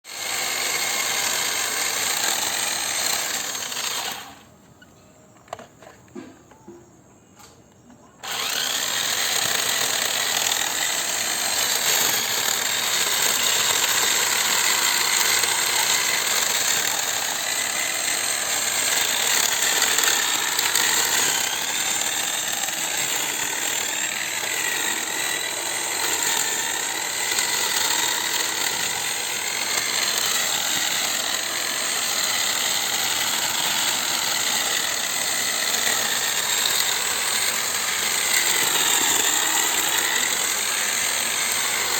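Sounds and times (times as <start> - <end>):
electric drill running: 0.1 - 4.5, 8.2 - 41.9.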